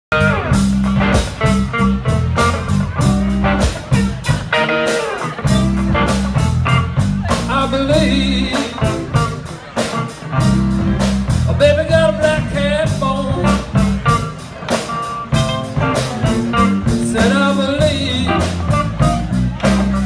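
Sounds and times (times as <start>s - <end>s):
bass guitar: 0.0s - 20.0s
drums steady beat: 0.1s - 20.0s
electric guitars: 0.1s - 20.0s.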